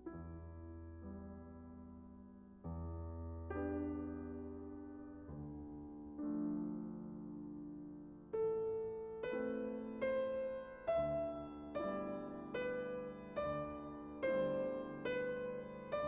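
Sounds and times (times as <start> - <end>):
slow gentle piano: 0.0 - 16.0.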